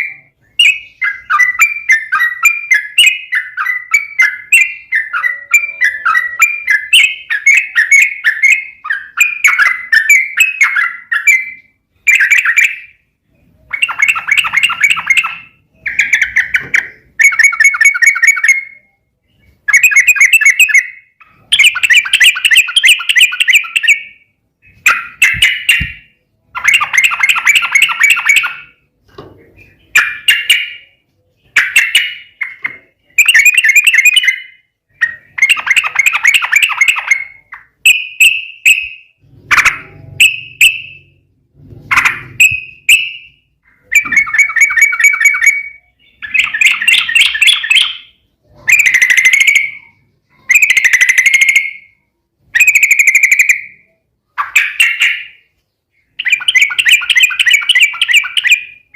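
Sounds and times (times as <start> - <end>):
bird singing warbled phrases: 0.0 - 58.9.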